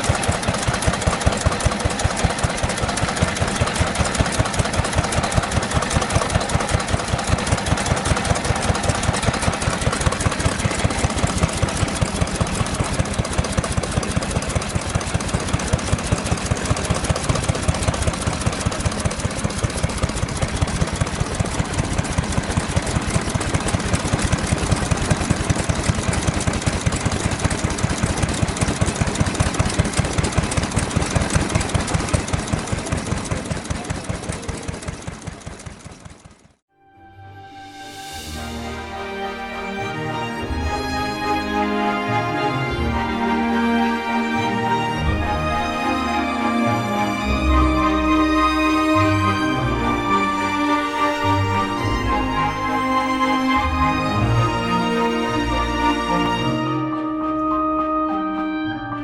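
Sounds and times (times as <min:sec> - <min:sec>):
stationary engine running steadily: 0:00.0 - 0:36.6, 0:38.0 - 0:57.2.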